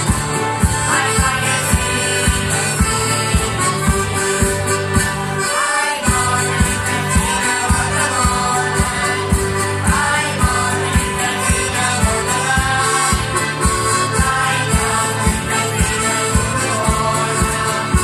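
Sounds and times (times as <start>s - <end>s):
accordion: 0.0s - 18.0s
person singing: 0.0s - 18.0s
strummed guitars: 0.0s - 18.0s.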